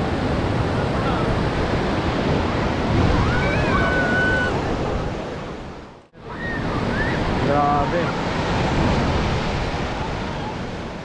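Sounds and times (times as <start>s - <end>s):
ocean surf breaking on beach: 0.0s - 11.0s.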